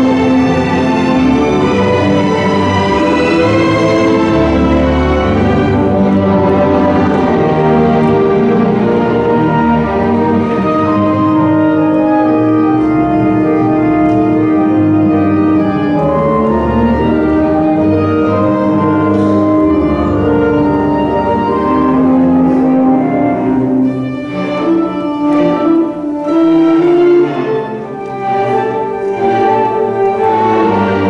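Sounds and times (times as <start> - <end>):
orchestra playing classical music: 0.0 - 31.0.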